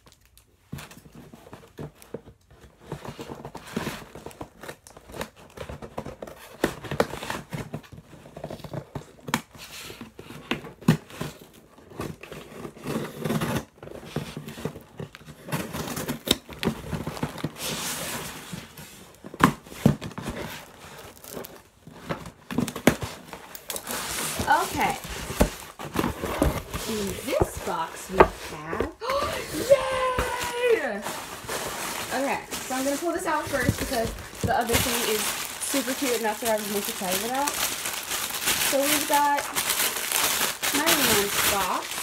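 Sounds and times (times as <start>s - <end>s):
cardboard rustling: 0.2s - 42.0s
tape tearing: 2.8s - 42.0s.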